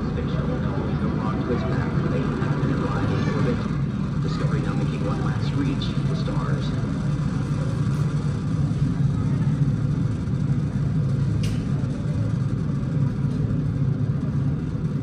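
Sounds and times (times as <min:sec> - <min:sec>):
low rumble of rocket engines: 0:00.0 - 0:15.0.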